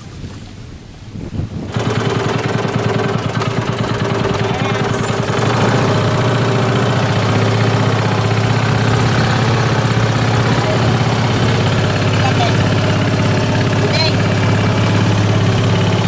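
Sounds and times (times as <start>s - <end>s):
motor boat engine rattling: 1.4s - 16.0s.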